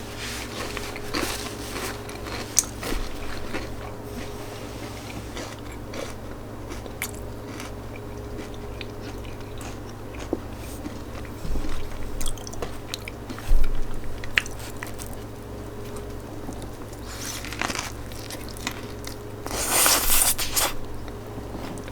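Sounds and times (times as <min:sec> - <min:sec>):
food chewing and crunching: 0:00.0 - 0:21.9.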